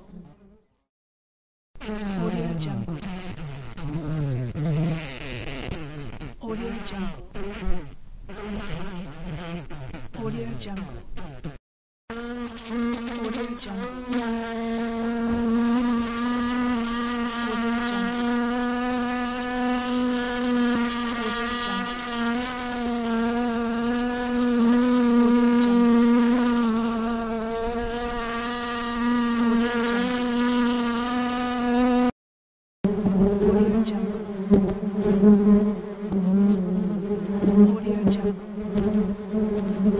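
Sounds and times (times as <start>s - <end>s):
bee buzzing: 1.8s - 32.2s, 32.8s - 39.9s.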